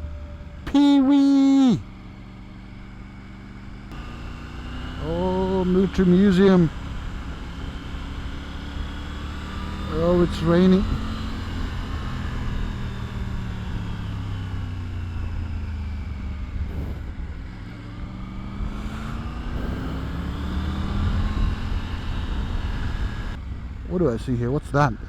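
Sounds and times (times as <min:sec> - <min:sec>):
motorcycle engine under way: 0:00.0 - 0:25.0.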